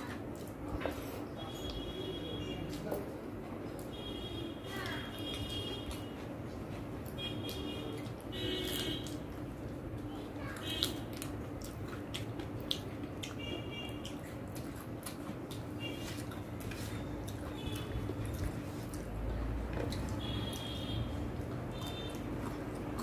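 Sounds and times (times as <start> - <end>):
chewing with wet mouth clicks: 0.0 - 23.0
food squishing mixed by hand: 0.0 - 23.0.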